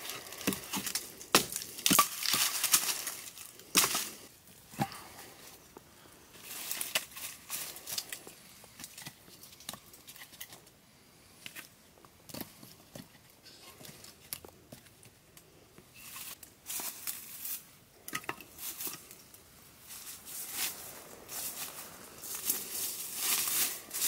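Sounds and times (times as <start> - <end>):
dry grass and twigs rustling: 0.0 - 24.0.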